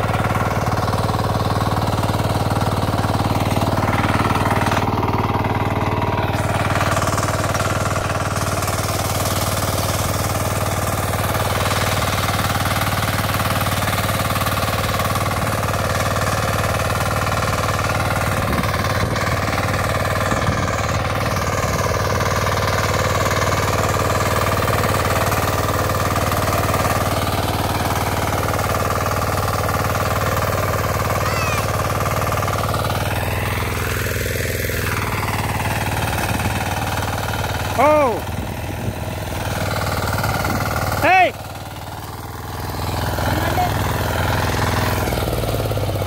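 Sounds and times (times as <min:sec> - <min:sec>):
tiller engine running under load: 0:00.0 - 0:46.0
tines churning soil: 0:00.0 - 0:46.0.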